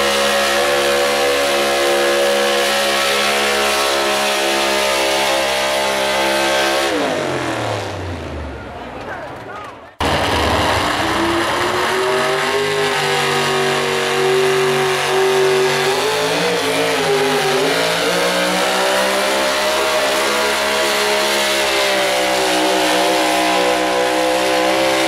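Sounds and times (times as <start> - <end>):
truck engine at full throttle: 0.0 - 25.0.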